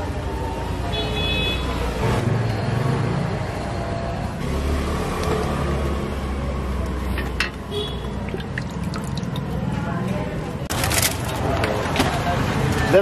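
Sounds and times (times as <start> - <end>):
vehicle engine rumbling: 1.9 - 13.0.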